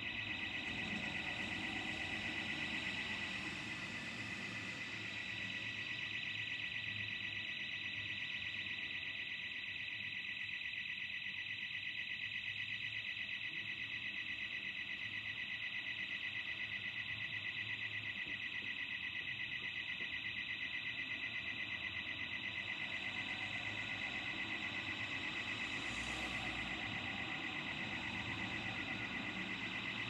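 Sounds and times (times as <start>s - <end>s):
burglar alarm pulsing tone: 0.0s - 30.0s.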